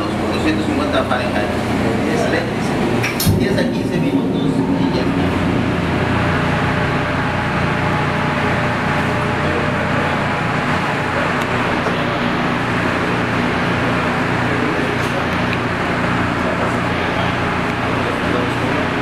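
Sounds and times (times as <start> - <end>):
fan whooshing: 0.0 - 19.0.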